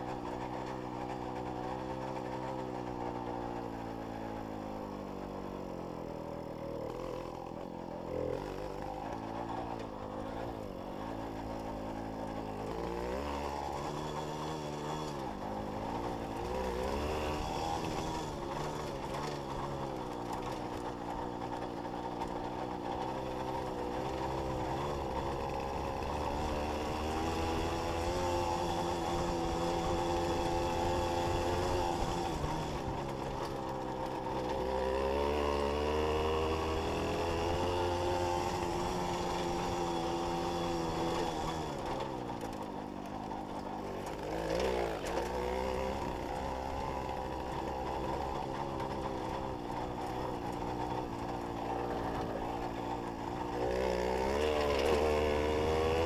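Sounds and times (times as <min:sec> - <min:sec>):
two-stroke moped engine running: 0:00.0 - 0:56.0.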